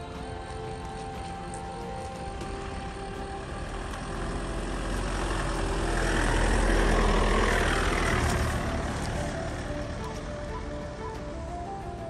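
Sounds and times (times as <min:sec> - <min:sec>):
road noise: 0:00.0 - 0:12.0
vehicle engine: 0:00.0 - 0:12.0.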